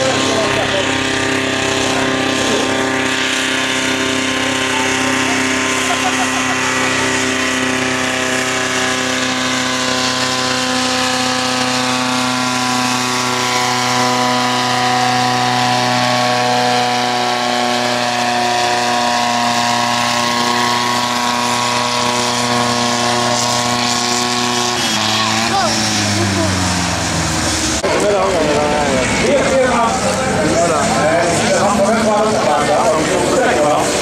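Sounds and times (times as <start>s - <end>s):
tractor diesel engine at high revs: 0.0s - 34.0s.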